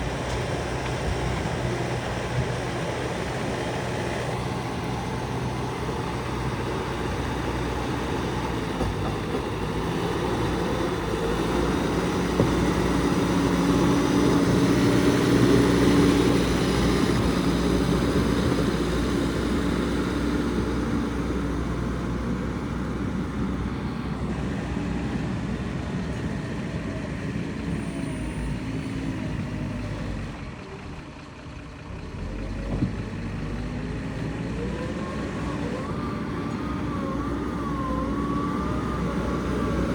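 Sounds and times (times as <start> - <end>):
diesel machinery running under load: 0.0 - 39.9.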